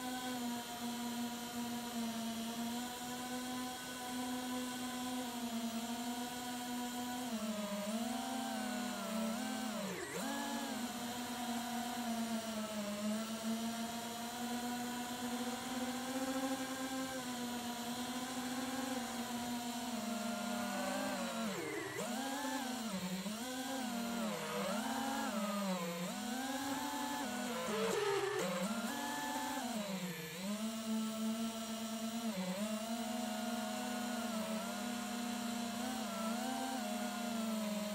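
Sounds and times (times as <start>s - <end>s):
quadcopter motors and propellers whining: 0.0s - 37.9s.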